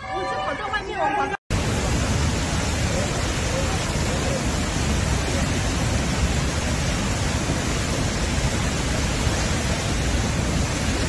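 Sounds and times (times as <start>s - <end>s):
water rushing down spillway: 1.5s - 11.0s.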